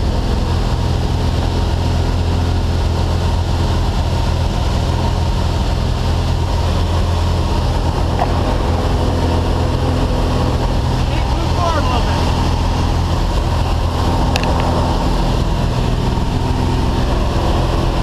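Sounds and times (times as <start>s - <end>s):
propeller engine drone: 0.0s - 18.0s.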